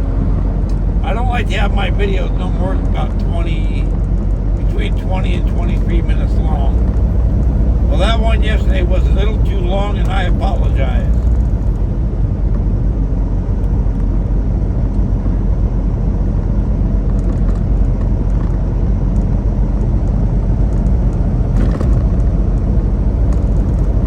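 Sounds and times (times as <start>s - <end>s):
truck engine and road noise: 0.0s - 24.0s.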